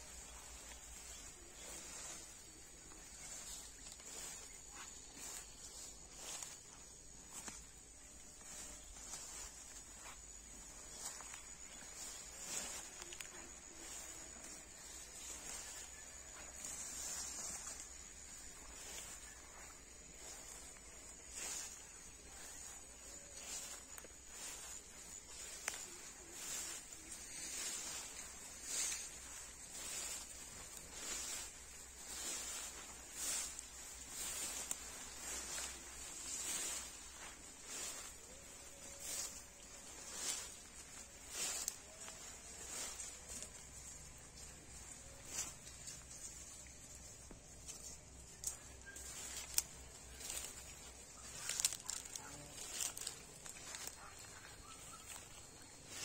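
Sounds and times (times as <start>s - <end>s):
faint bird chirps: 0.0s - 56.0s
steady high hiss: 0.0s - 56.0s
swishing rustles in grass: 0.0s - 56.0s.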